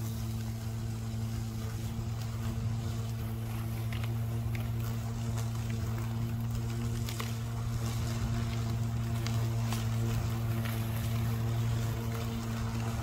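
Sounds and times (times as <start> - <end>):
electric lawn mower humming: 0.0 - 13.0.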